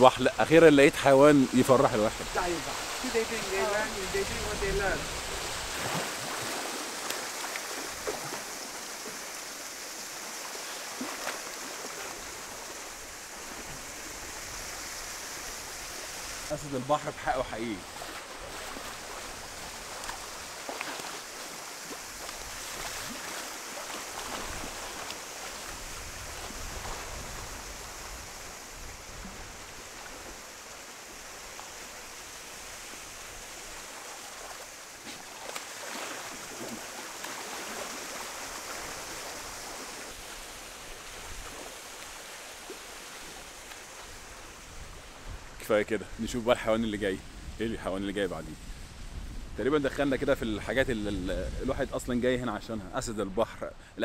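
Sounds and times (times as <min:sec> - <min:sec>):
rain falling on water: 0:00.0 - 0:45.2.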